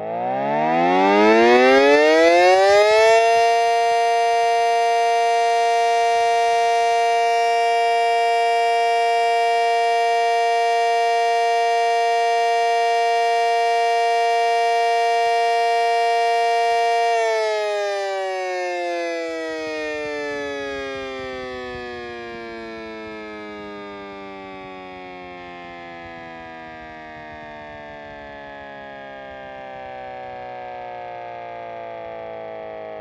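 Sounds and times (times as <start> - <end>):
siren winding up and wailing: 0.0 - 31.0.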